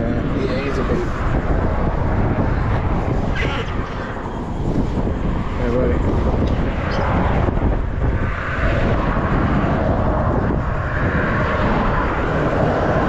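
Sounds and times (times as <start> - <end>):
traffic rumbling overhead: 0.0 - 13.0.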